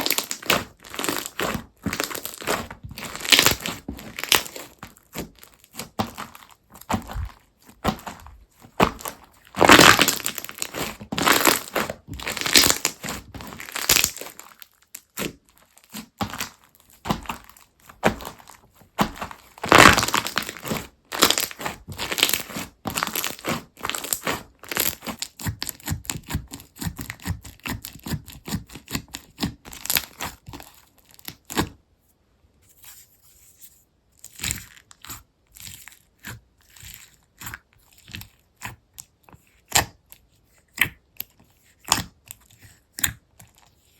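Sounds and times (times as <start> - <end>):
crunchy slime being squeezed: 0.0 - 31.7, 34.2 - 40.1.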